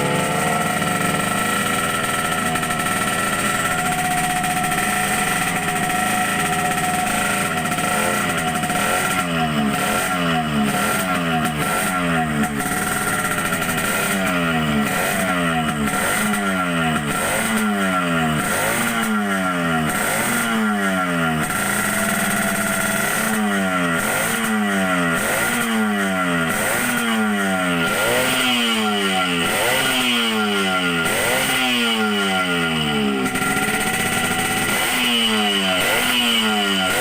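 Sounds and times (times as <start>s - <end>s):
two-stroke engine revving: 0.0s - 37.0s.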